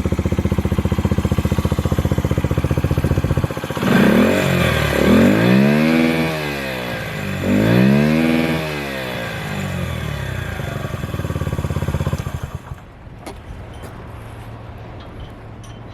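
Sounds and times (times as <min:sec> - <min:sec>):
small motorcycle engine revving: 0:00.0 - 0:12.8.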